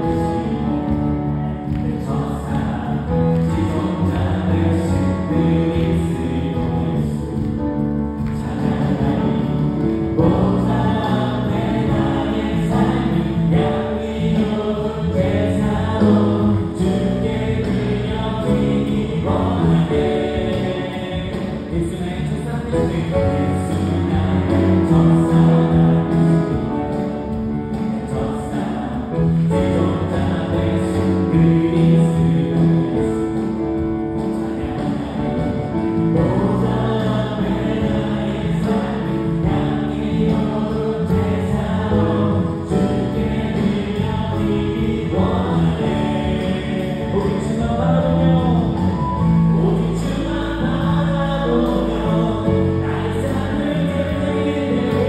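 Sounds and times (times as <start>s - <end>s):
group of voices singing: 0.0s - 55.0s
worship band playing: 0.0s - 55.0s.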